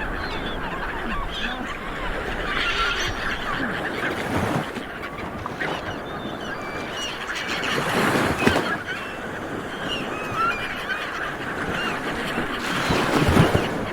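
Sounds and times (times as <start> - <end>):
short bird calls: 0.0 - 13.0.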